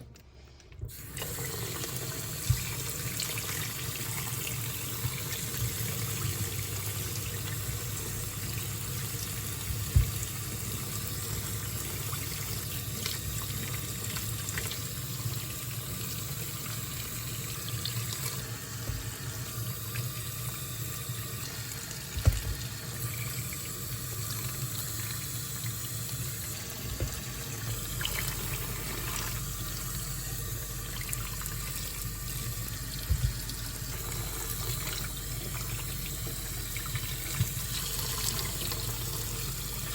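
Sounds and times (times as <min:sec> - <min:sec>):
tap water running into sink: 0:00.9 - 0:39.9.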